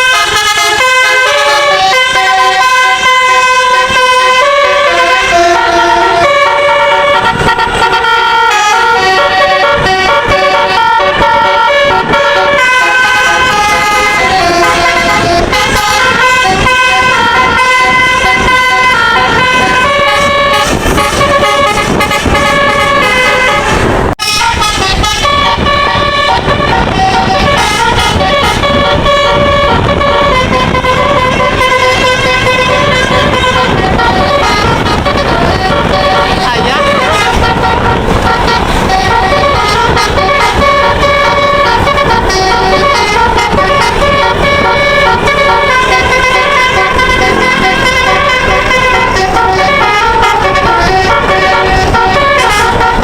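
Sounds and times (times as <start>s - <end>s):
bus musical air horn: 0.0s - 53.0s.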